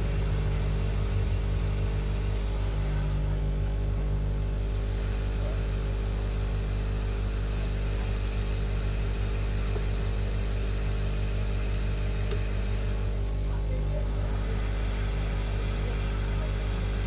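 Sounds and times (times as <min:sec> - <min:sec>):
hot air blower whirring: 0:00.0 - 0:17.0
low electrical buzz: 0:00.0 - 0:17.0.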